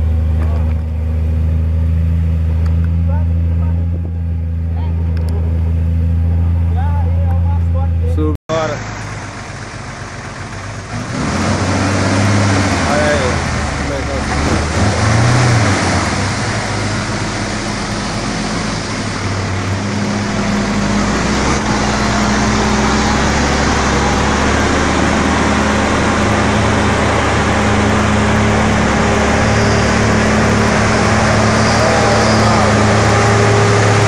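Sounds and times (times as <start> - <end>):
diesel truck engine under load: 0.0 - 34.0.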